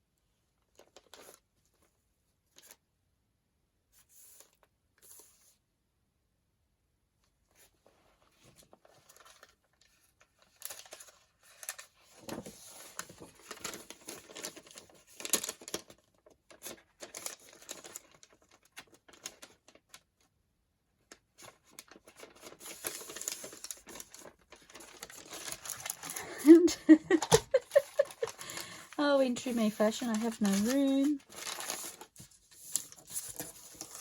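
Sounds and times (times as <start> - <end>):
paper rustling and crinkling: 0.6 - 2.8, 7.6 - 20.3, 21.1 - 34.0.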